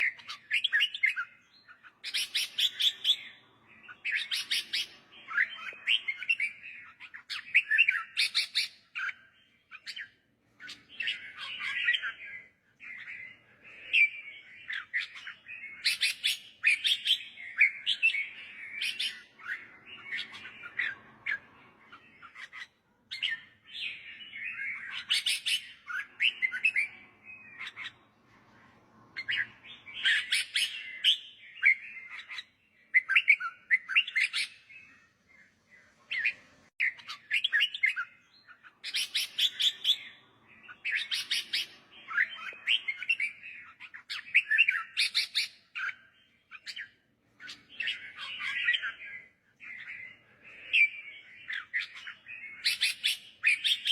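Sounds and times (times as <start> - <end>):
bird singing warbled phrases: 0.0 - 53.9.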